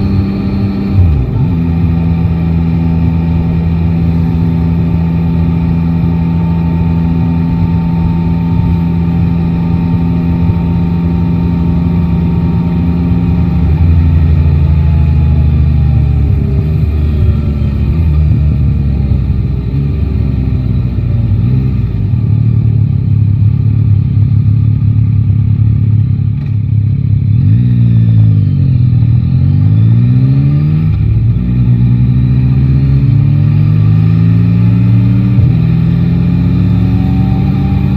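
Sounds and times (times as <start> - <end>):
motorcycle engine and exhaust: 0.0 - 37.9.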